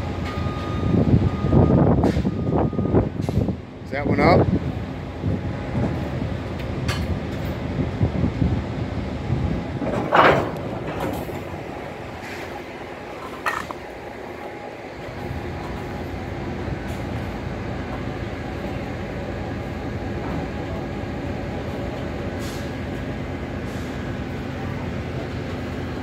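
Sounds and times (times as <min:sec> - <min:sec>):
steel wheels rolling on rail: 0:04.5 - 0:26.0.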